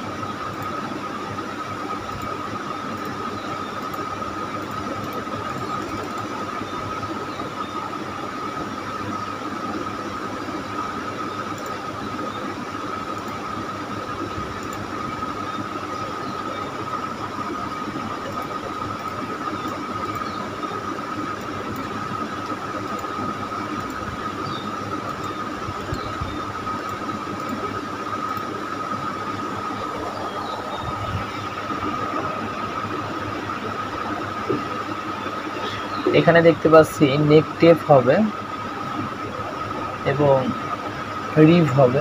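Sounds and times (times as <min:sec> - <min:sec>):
high-pitched whine: 0:00.0 - 0:42.0.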